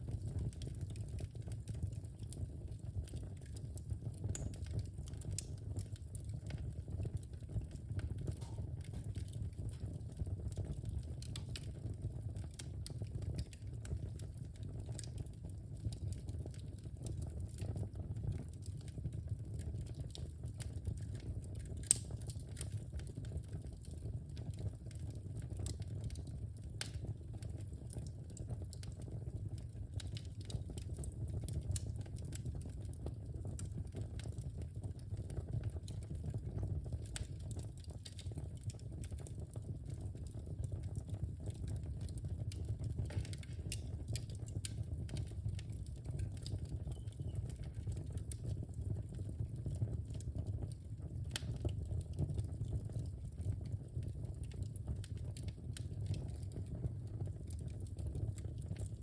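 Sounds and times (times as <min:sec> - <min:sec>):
fire crackling and popping: 0:00.0 - 0:59.0
wood fire burning: 0:00.0 - 0:59.0.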